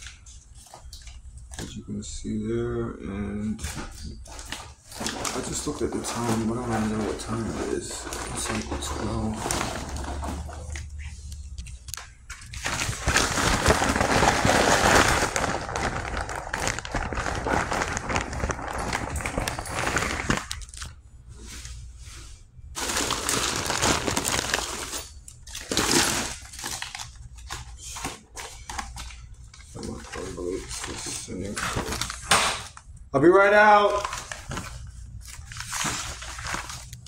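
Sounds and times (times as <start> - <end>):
plastic bags crinkling: 3.6 - 21.9, 22.6 - 32.9, 33.6 - 37.0.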